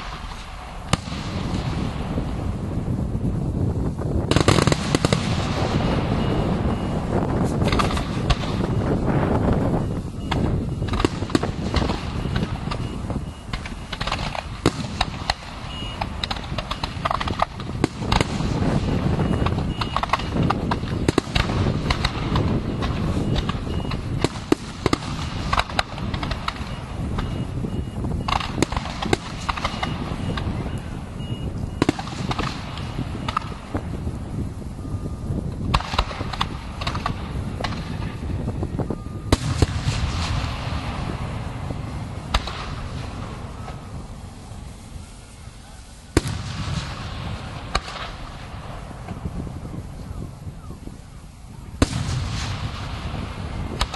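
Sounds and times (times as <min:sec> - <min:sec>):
fireworks bangs and crackling: 0:00.0 - 0:53.9
low rumble of explosions: 0:00.0 - 0:53.9.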